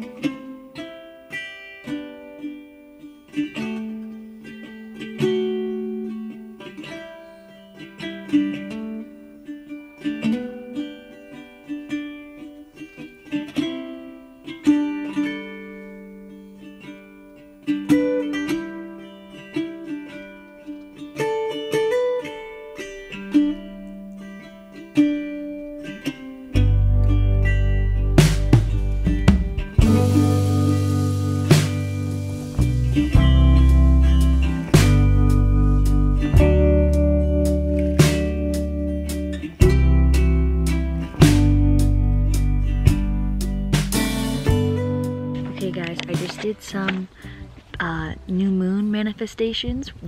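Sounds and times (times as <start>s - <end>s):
plucked string melody: 0.0s - 49.8s.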